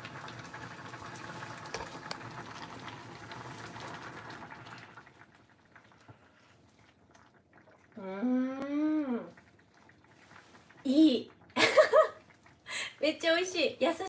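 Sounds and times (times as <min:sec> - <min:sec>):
broth bubbling in a pan: 0:00.0 - 0:14.0.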